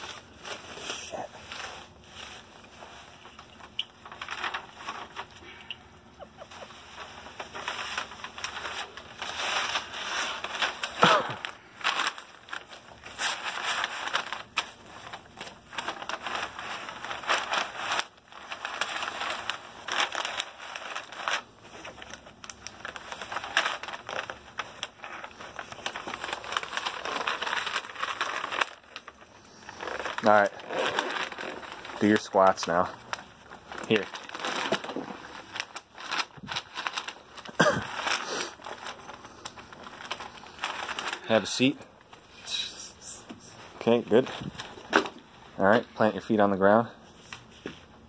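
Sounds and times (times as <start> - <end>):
paper crinkling: 0.0 - 42.4, 43.2 - 48.0.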